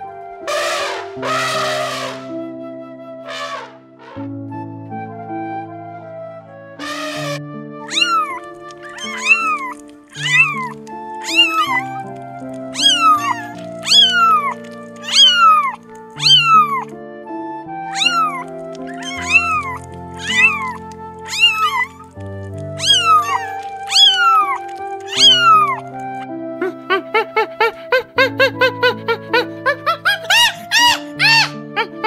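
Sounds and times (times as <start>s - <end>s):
background music with held chords: 0.0s - 32.0s
kittens mewing: 0.5s - 2.3s, 6.8s - 16.9s, 17.9s - 32.0s.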